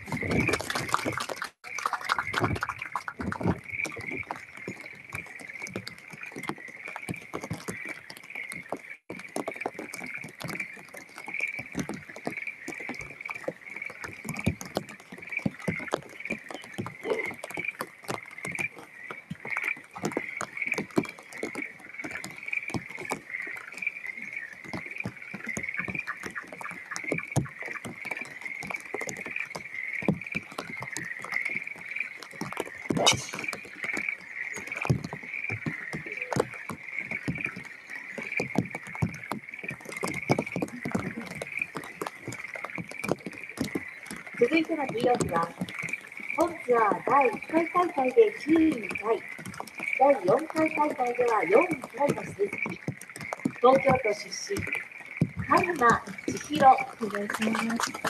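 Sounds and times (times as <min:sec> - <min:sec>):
frogs calling: 0:00.0 - 0:58.0
raindrops ticking: 0:00.0 - 0:58.0.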